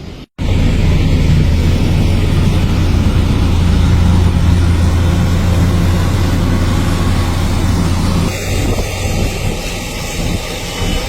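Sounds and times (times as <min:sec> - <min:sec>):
heavy engine rumbling: 0:00.0 - 0:11.0
road or wind noise hiss: 0:00.0 - 0:11.0.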